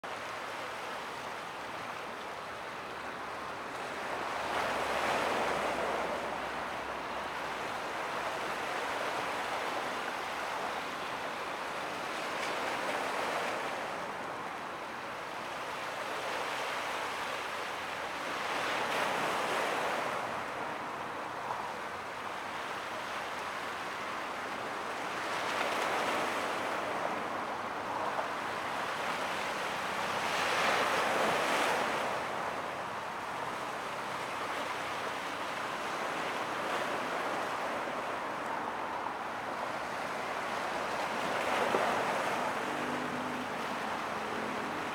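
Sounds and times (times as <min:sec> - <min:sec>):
waves washing ashore: 0:00.1 - 0:44.9.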